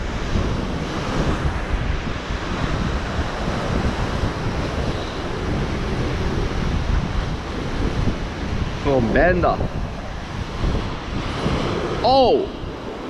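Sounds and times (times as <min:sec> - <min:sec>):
ocean surf breaking on rocks: 0:00.0 - 0:13.0
wind buffeting microphone: 0:00.0 - 0:13.0.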